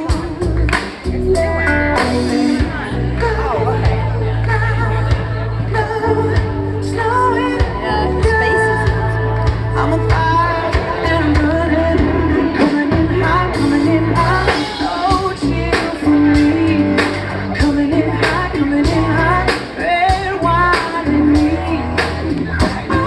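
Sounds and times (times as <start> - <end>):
electric guitar: 0.0 - 23.0
heavy bass notes: 0.0 - 23.0
man singing: 0.0 - 23.0.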